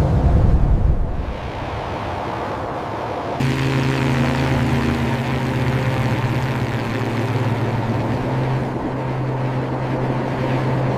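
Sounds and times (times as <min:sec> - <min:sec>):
propeller airplane engine drone: 0:00.0 - 0:10.9.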